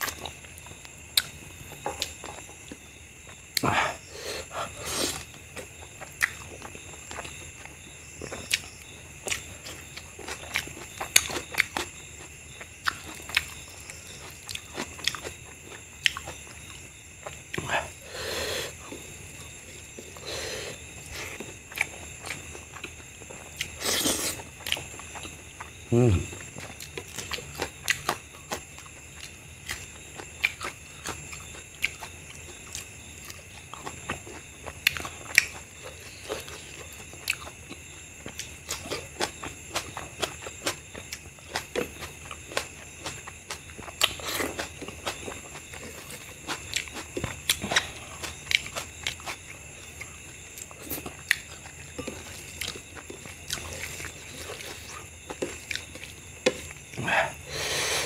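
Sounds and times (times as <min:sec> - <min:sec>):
person chewing with lip smacks: 0:04.6 - 0:13.6, 0:14.2 - 0:18.0, 0:18.7 - 0:57.4.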